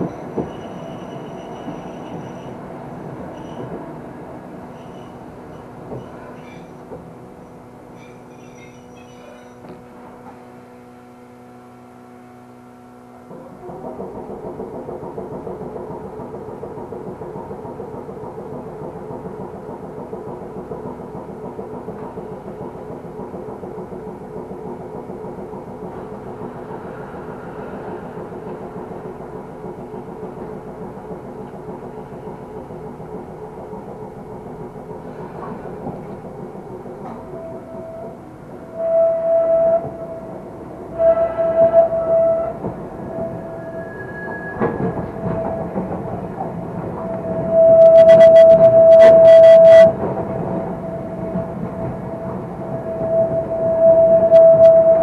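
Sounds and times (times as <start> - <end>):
rail noise: 0.0 - 55.0.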